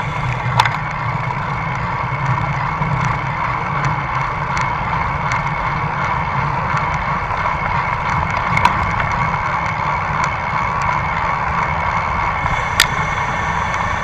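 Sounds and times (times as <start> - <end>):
road and wind rumble: 0.0 - 14.0.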